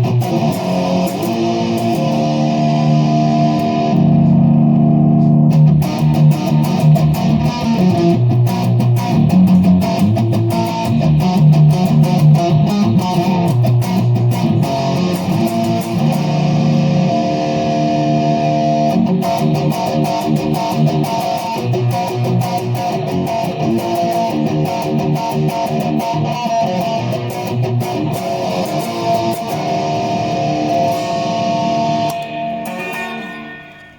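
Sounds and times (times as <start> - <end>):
electric guitar playing: 0.0 - 33.9.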